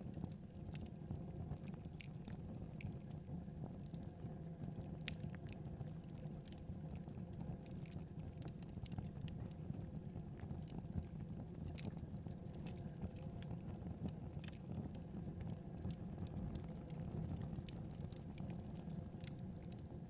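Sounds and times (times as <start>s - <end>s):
crackles and pops of burning logs: 0.0s - 20.0s
low rumble of flames: 0.0s - 20.0s.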